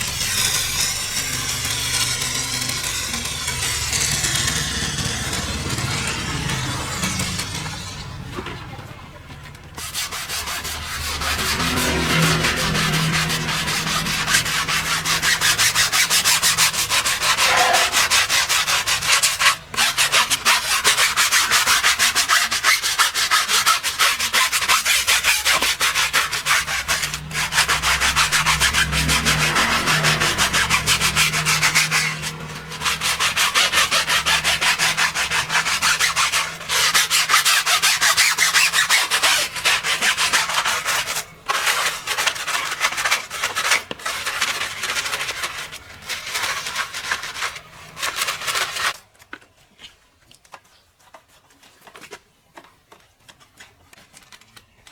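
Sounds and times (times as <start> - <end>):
stiff brush scrubbing: 0.0 - 8.8, 9.5 - 49.0.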